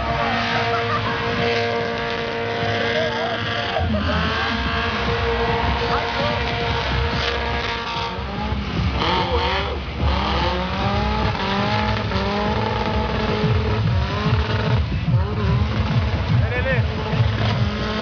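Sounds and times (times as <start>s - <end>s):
car engines revving hard: 0.0s - 18.0s
tyres squealing: 0.0s - 18.0s.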